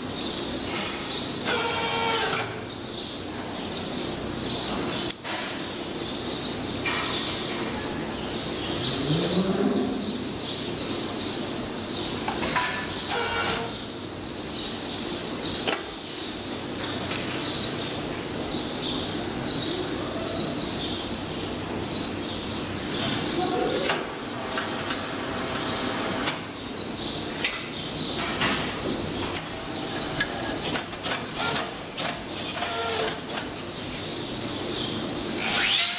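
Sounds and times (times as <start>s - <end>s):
small birds chirping: 2.5s - 35.9s.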